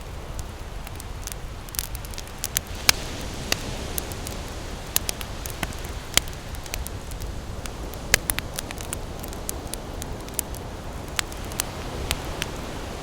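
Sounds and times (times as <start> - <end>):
campfire crackling and popping: 0.0 - 13.0
ocean waves rushing: 2.2 - 13.0.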